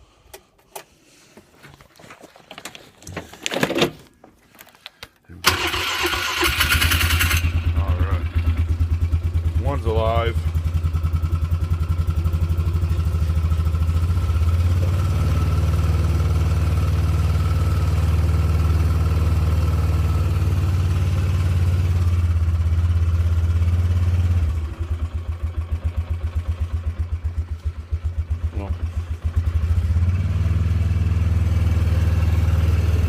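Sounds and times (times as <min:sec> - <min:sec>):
quad engine running: 0:05.4 - 0:33.0.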